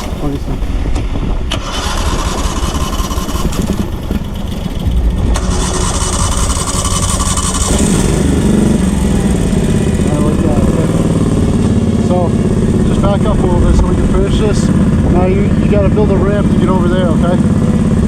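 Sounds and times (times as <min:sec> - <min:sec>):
small gasoline engine running: 0:01.6 - 0:18.0.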